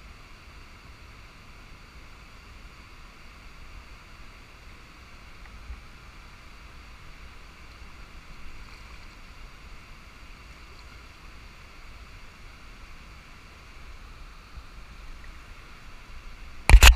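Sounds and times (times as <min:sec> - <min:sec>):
river water running: 0:00.0 - 0:16.9.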